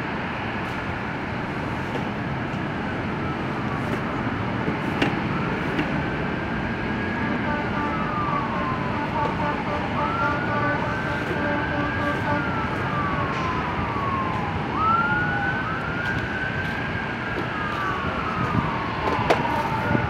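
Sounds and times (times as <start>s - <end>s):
emergency siren wailing: 1.5s - 20.0s.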